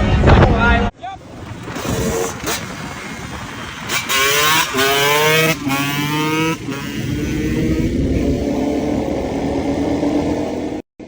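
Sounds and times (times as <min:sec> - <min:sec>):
vehicle engine revving: 0:01.2 - 0:10.8.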